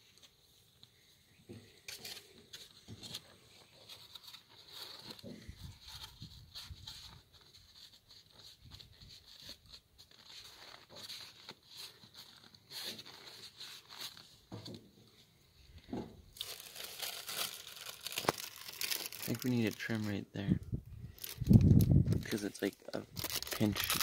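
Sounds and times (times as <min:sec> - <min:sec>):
rustling of bandaging materials: 0:00.0 - 0:24.0.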